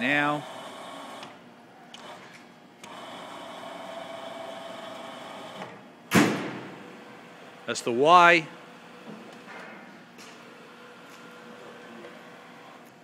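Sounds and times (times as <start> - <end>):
mill table drive whine: 0.0 - 6.1, 6.7 - 13.0.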